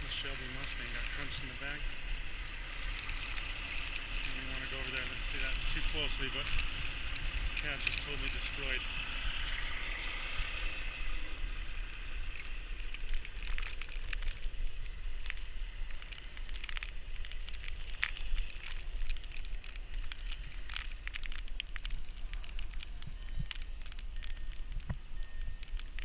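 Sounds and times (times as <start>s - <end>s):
crackling and crunching clicks: 0.0s - 26.0s
low wind rumble: 0.0s - 26.0s.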